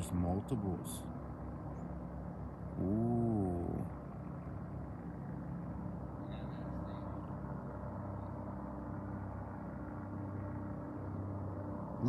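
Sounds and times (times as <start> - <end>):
distant helicopters droning: 0.0 - 12.0.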